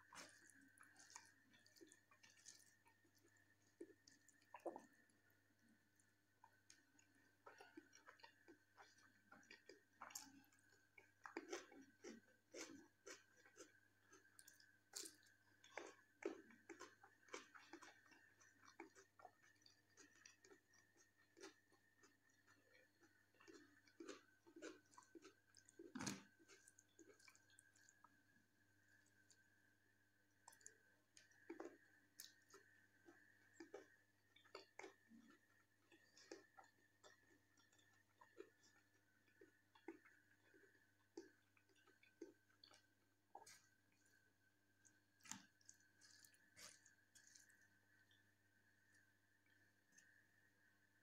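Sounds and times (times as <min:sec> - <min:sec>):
person chewing: 0:00.0 - 0:05.1, 0:06.0 - 0:28.1, 0:30.4 - 0:50.2.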